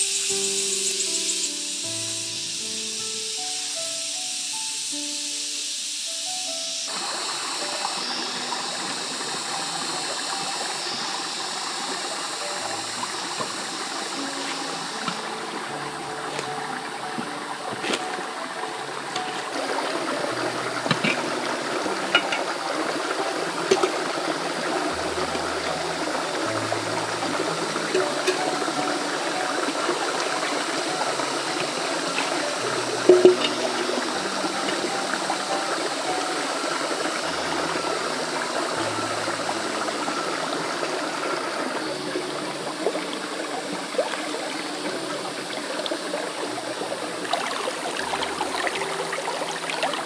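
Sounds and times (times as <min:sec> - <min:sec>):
running water: 0:00.0 - 0:50.0.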